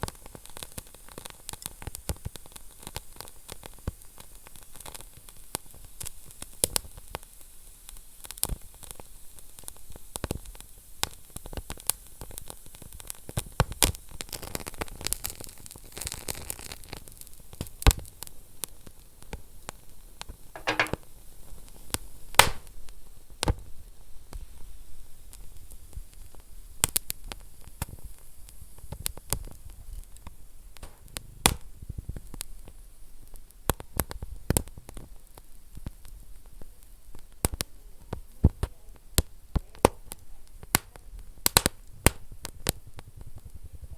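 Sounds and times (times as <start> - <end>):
wood fire hissing and crackling: 0.0 - 43.9.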